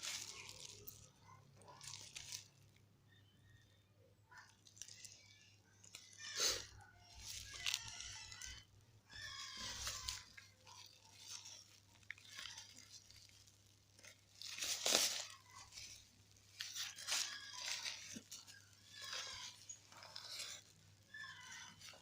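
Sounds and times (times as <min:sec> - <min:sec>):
packaging crinkling and tearing: 0:00.0 - 0:02.9, 0:04.3 - 0:22.0.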